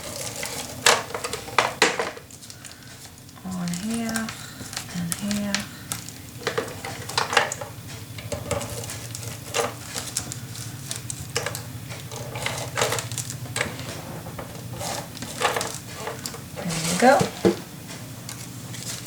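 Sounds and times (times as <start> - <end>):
steady low hum: 0.0 - 19.0
tape crackling on paper: 0.0 - 19.0.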